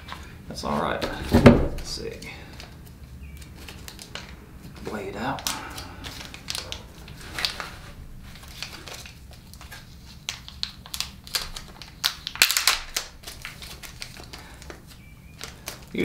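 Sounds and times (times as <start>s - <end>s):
packaging crinkling and rustling: 0.9s - 16.0s.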